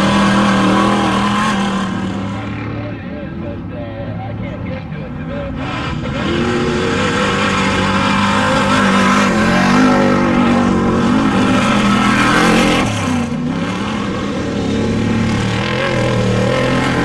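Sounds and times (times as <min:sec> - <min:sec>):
race vehicle engine revving high: 0:00.0 - 0:17.0.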